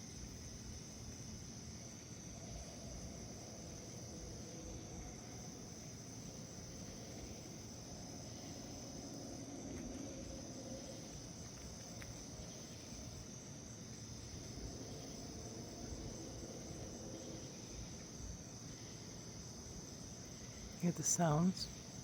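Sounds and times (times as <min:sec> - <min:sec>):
crickets chirping: 0:00.0 - 0:22.0
faint low rumble: 0:02.2 - 0:20.8.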